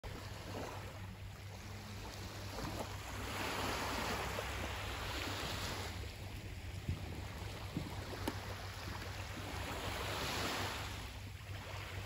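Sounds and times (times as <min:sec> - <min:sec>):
waves washing on shore: 0:00.1 - 0:12.0.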